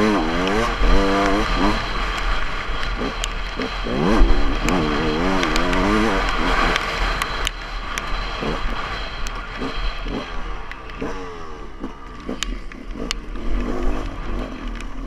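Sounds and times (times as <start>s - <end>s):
dirt bike engine revving: 0.0s - 15.0s
sharp ticks: 0.0s - 15.0s
wind rumbling on microphone: 0.0s - 15.0s.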